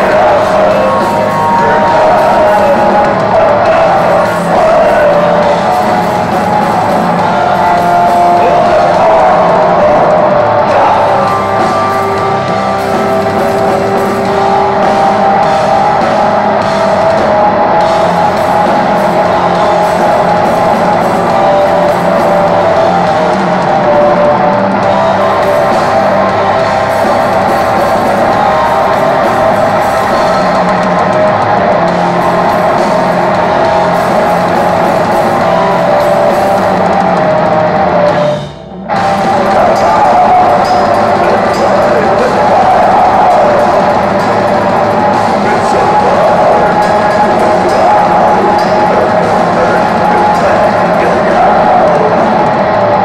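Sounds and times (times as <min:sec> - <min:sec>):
metal band playing live: 0:00.0 - 0:53.0.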